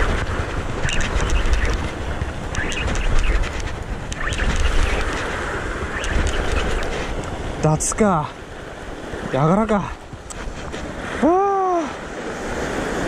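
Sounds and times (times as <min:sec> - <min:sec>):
surf washing against rocks: 0:00.0 - 0:13.0
wind buffeting microphone: 0:00.0 - 0:13.0.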